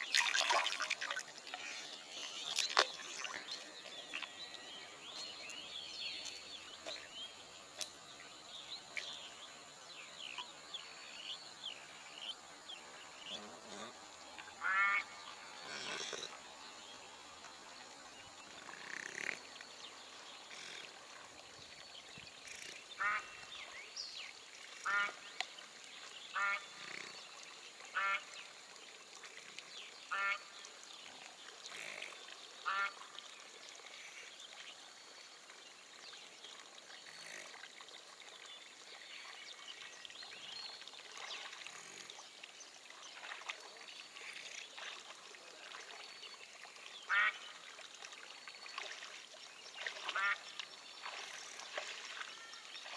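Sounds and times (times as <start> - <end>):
faint outdoor background: 0.0 - 52.9.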